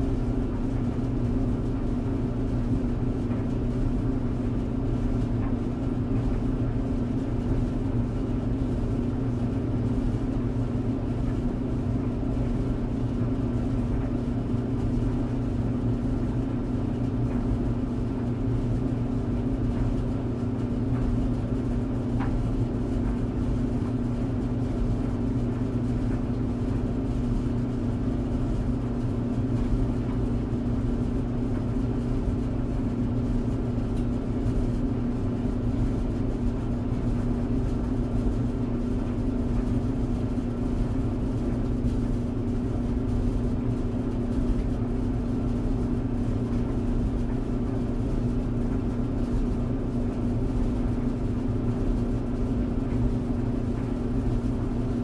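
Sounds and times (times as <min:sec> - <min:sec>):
clothes dryer humming: 0:00.0 - 0:55.0.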